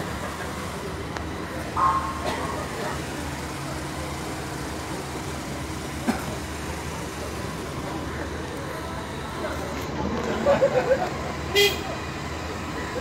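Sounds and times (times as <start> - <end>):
small car engine idling: 0.0 - 13.0.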